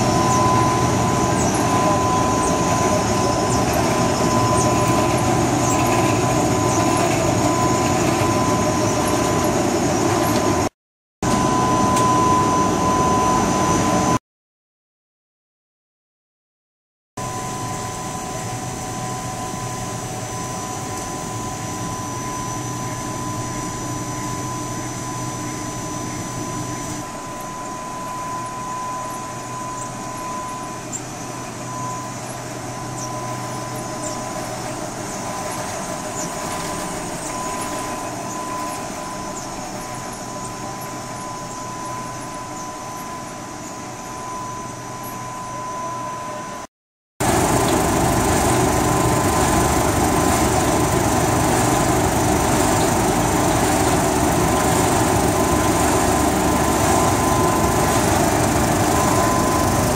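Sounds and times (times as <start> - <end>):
machinery humming: 0.0 - 10.7, 17.2 - 46.6, 47.2 - 59.9
high machine whine: 0.0 - 14.2, 17.2 - 59.9.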